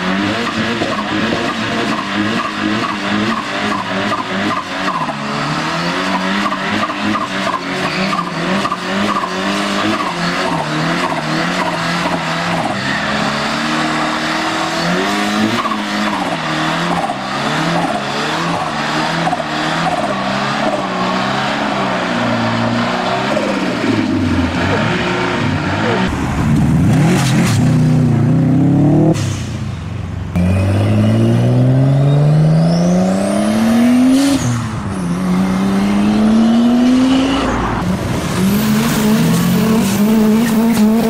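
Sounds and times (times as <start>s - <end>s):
car engine at high revs: 0.0s - 41.0s.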